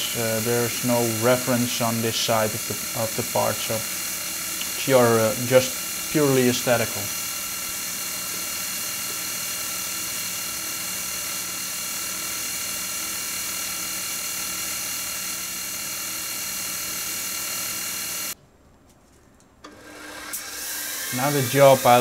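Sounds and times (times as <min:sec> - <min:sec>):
even hiss: 0:00.0 - 0:18.4, 0:21.0 - 0:22.0
milling machine whine: 0:00.0 - 0:18.4, 0:19.7 - 0:22.0.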